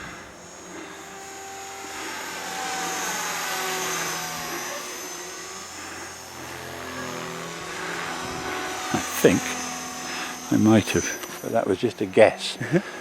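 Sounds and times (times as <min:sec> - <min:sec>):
model helicopter whine and rotor hiss: 0:00.0 - 0:13.0.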